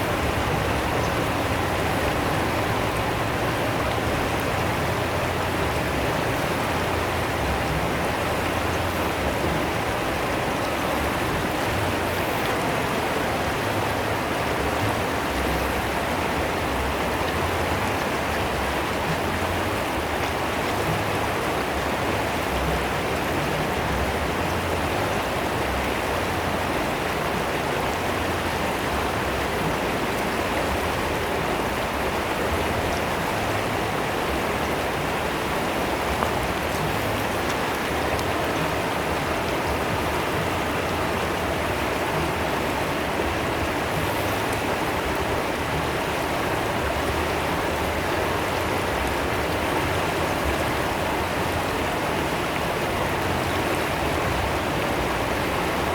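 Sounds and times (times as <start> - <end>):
river water rushing and splashing: 0.0 - 55.9.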